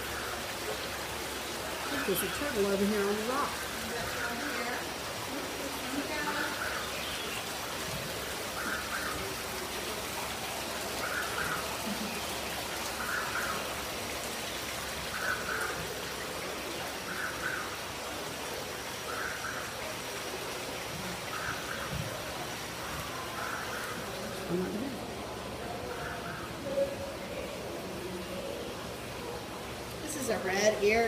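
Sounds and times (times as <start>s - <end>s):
running water in aquarium: 0.0s - 31.0s.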